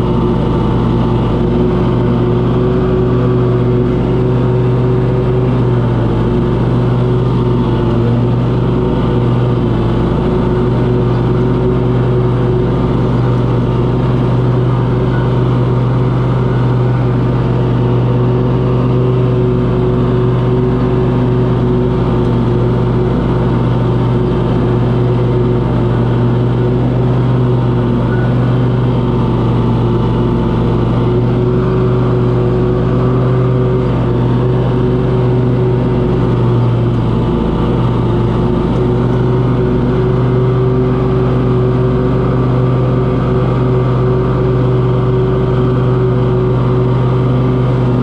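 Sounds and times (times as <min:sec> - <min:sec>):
small gas engine running: 0:00.0 - 0:48.0.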